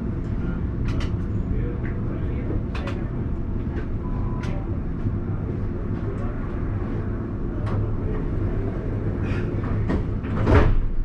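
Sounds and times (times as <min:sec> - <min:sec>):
tram rolling rumble: 0:00.0 - 0:11.0.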